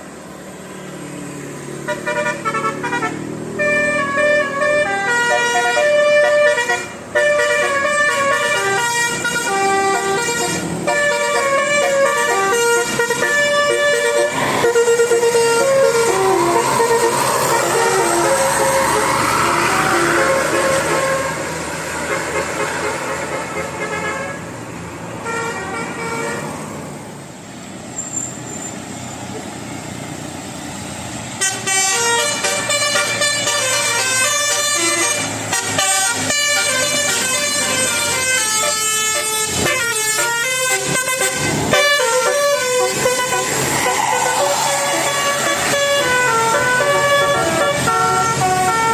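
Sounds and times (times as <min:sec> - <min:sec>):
road noise: 0:00.0 - 0:48.9
multi-tone musical bus horn: 0:01.8 - 0:26.8, 0:31.4 - 0:48.9.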